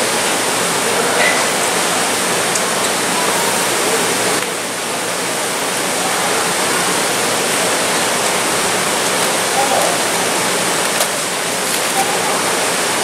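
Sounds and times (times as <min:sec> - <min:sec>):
loud rush of running water: 0:00.0 - 0:13.0.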